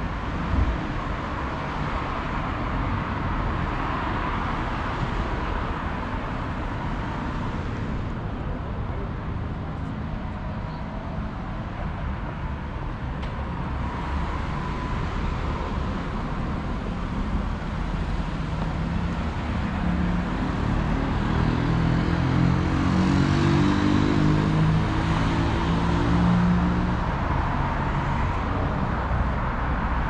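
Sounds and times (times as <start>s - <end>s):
cars passing: 0.0s - 30.0s.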